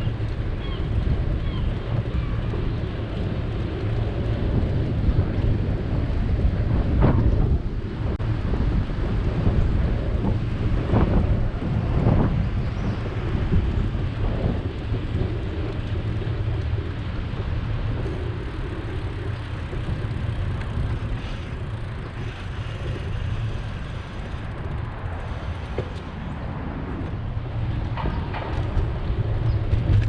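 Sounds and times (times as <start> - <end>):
bicycle road noise: 0.0 - 30.0
wind on microphone: 0.0 - 30.0.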